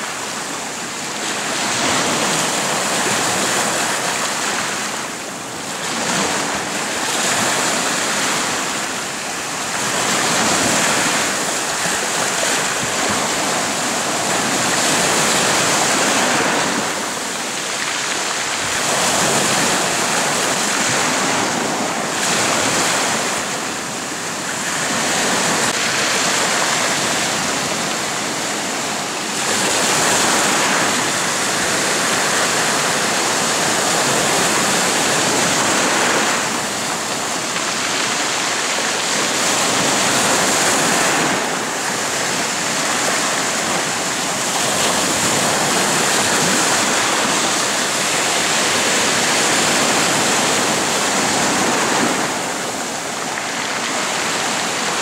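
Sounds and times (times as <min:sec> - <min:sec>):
waves washing over rocks: 0:00.0 - 0:55.0.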